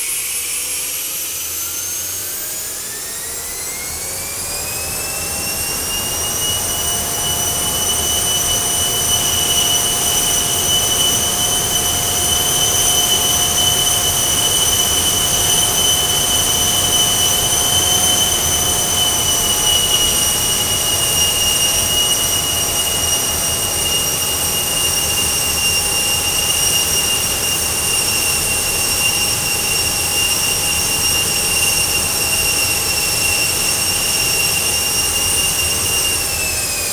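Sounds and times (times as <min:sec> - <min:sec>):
turbofan engine whine: 0:00.0 - 0:36.9.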